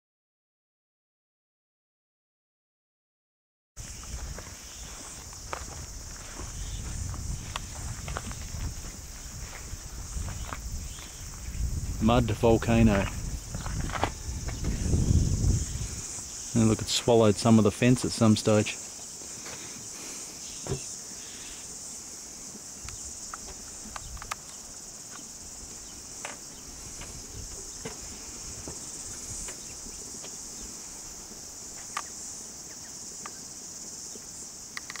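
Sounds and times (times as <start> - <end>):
insect chorus: 3.8 - 35.0.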